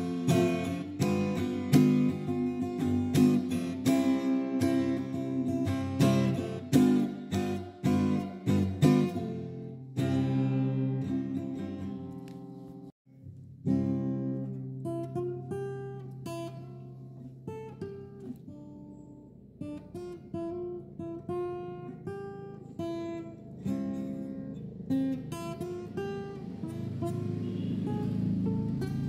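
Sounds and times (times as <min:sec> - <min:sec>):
acoustic guitar strumming: 0:00.0 - 0:29.0
plucked acoustic guitar notes: 0:00.0 - 0:29.0.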